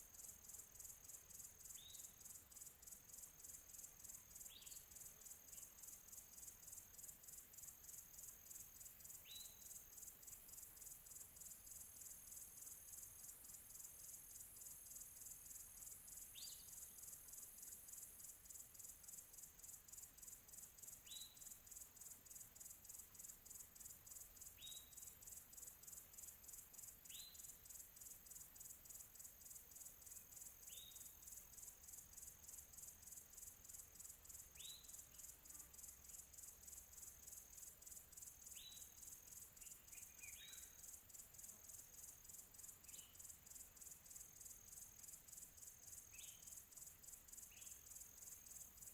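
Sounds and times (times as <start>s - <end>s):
crickets chirring: 0.0s - 48.9s.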